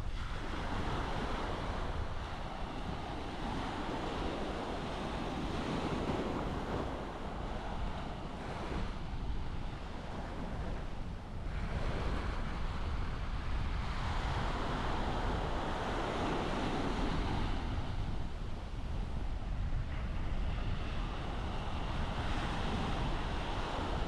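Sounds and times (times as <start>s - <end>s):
surf washing on beach: 0.0s - 24.0s
wind rumbling on microphone: 0.0s - 24.0s.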